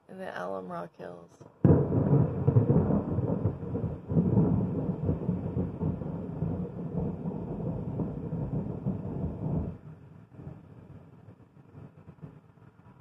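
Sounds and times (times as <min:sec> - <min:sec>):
thunder rumbling: 0:01.6 - 0:13.0.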